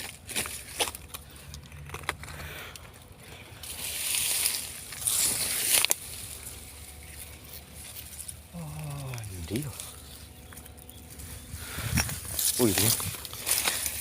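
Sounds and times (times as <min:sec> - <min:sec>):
dry leaves rustling underfoot: 0:00.0 - 0:14.0
twigs cracking: 0:00.0 - 0:14.0.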